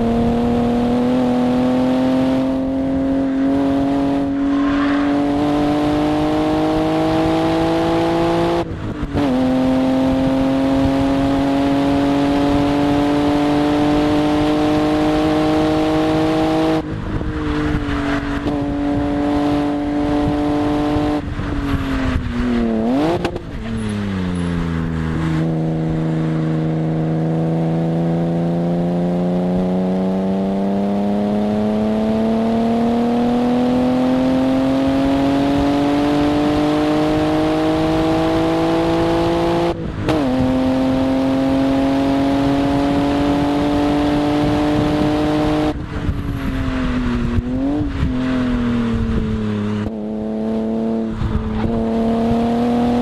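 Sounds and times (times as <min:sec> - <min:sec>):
car engine accelerating hard: 0:00.0 - 0:53.0
wind noise: 0:00.0 - 0:53.0.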